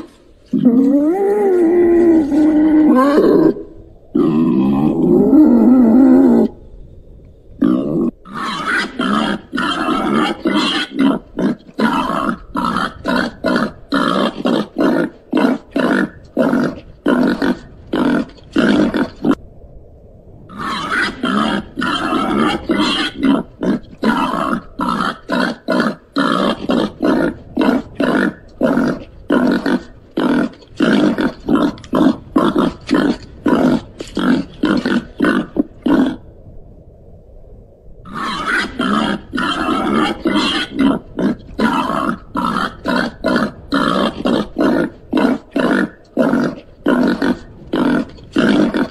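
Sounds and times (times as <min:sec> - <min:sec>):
pig grunting: 0:00.0 - 0:06.6, 0:07.6 - 0:19.4, 0:20.5 - 0:36.2, 0:38.1 - 0:48.9.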